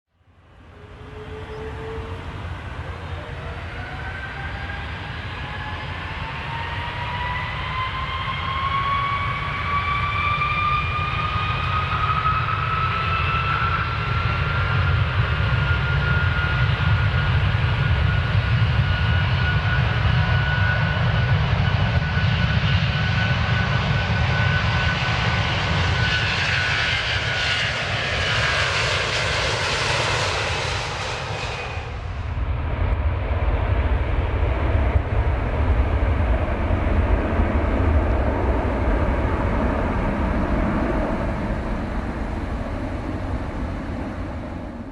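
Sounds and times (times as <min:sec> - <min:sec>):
airplane engines whining: 0:00.2 - 0:44.9.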